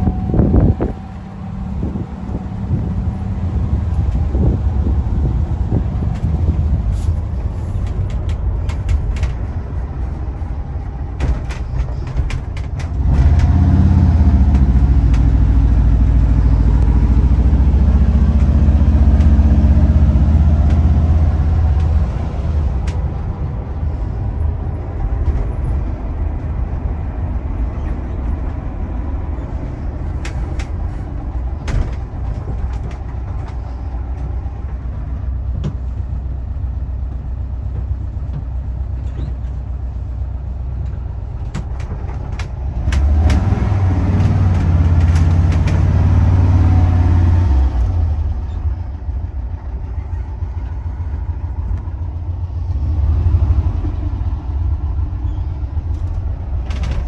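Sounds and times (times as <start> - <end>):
van engine and road rumble: 0.0 - 57.0.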